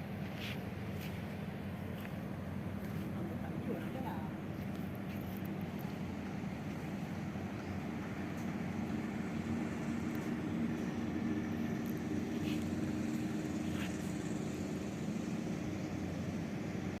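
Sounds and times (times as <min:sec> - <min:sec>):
boat diesel engine droning: 0:00.0 - 0:17.0.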